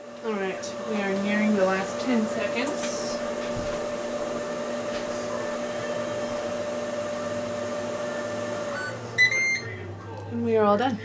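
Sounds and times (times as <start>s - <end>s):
cooker fan whirring: 0.0s - 11.0s.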